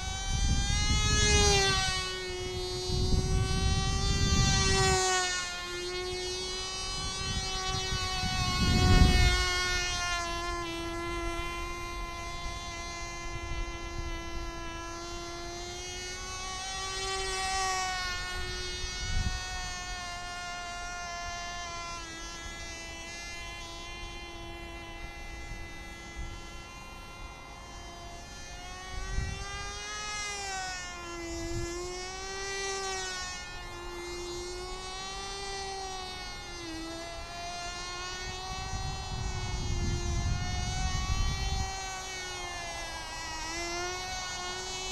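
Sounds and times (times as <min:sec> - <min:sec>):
wind rumble on microphone: 0:00.0 - 0:26.6, 0:28.6 - 0:30.5, 0:31.1 - 0:44.9
model airplane engine whine: 0:00.0 - 0:44.9.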